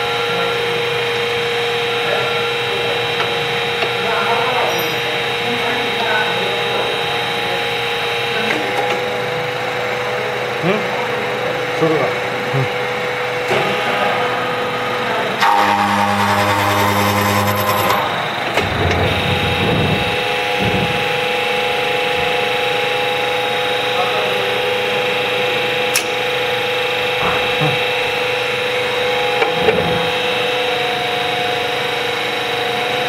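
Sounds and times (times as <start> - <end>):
deeper machine hum: 0.0 - 33.0
milling machine whine: 0.0 - 33.0.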